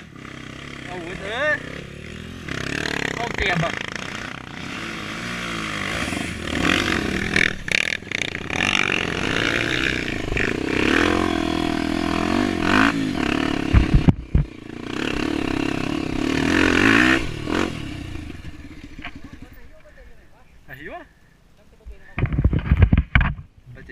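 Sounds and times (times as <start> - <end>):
motorcycle engine revving: 0.0 - 19.9.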